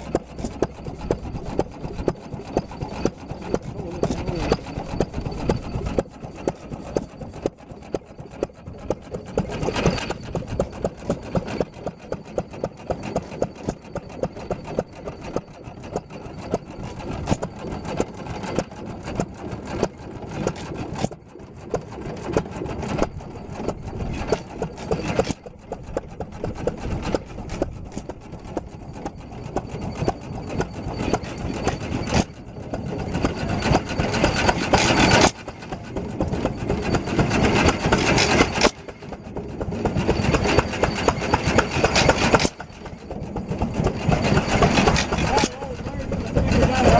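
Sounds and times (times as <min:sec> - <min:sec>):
mechanical clatter: 0:00.0 - 0:46.9
old gas engines popping: 0:00.0 - 0:46.9.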